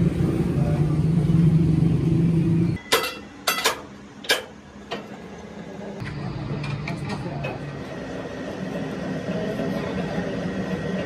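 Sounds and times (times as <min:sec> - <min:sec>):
workshop motor hum: 0:00.0 - 0:11.0.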